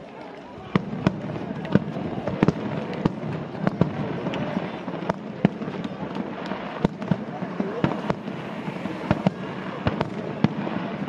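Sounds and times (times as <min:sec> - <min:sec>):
distant firework bangs: 0:00.6 - 0:11.0.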